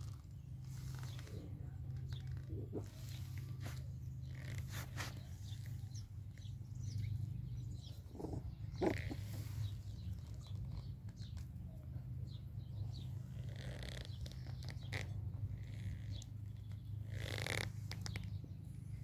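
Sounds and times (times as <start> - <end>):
puppies moving on dirt: 0.0 - 19.0
steady low hum: 0.0 - 19.0.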